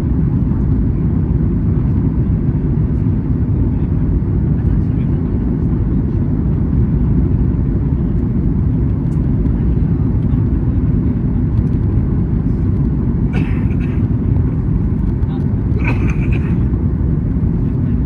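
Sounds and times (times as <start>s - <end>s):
airliner cabin engine rush: 0.0s - 18.0s.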